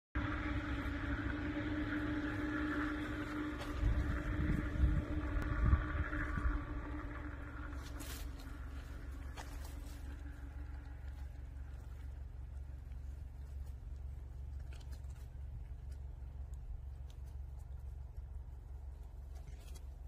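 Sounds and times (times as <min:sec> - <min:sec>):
low rumble: 0:00.2 - 0:20.0
motor humming: 0:00.2 - 0:20.0.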